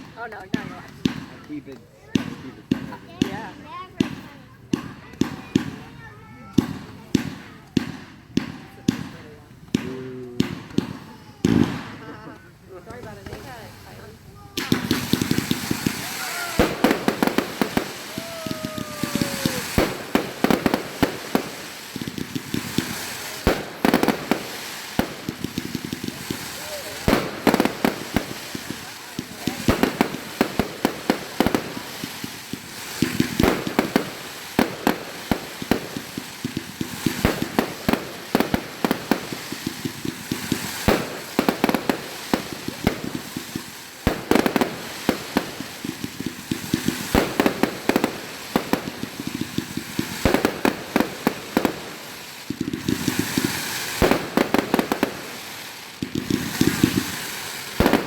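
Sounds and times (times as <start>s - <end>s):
fireworks bangs and crackling pops: 0.0s - 58.0s.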